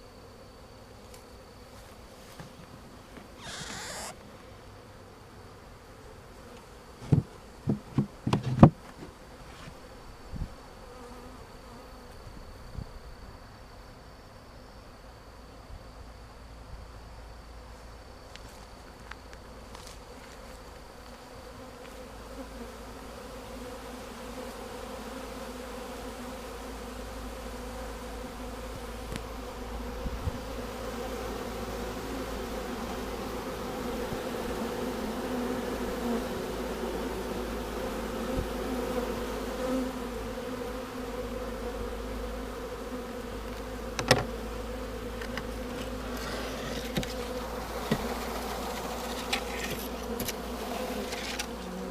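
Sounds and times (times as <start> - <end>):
bees buzzing: 0.0 - 12.2, 19.5 - 51.9.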